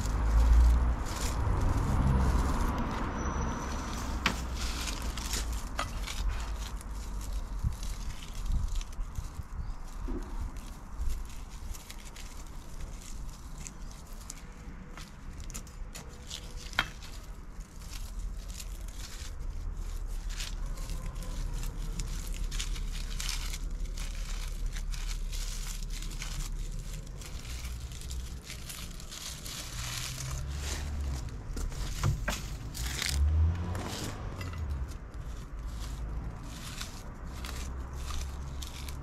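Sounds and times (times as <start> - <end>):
plants rustling and crackling: 0.0 - 39.0
twigs snapping: 0.0 - 39.0.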